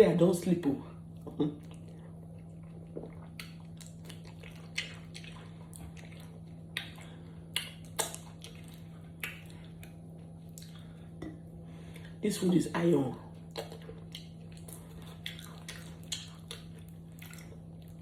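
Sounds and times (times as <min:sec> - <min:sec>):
steady low hum: 0:00.0 - 0:18.0
person chewing food: 0:01.2 - 0:12.2, 0:13.3 - 0:18.0.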